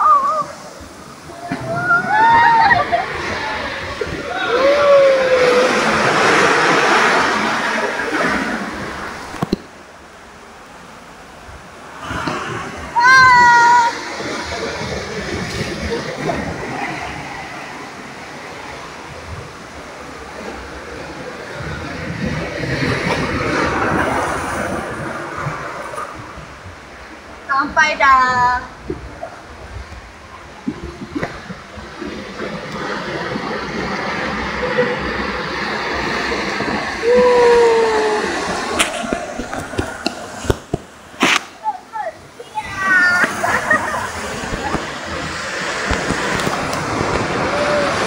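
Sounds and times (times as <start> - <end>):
water rushing and churning: 0.0 - 48.0.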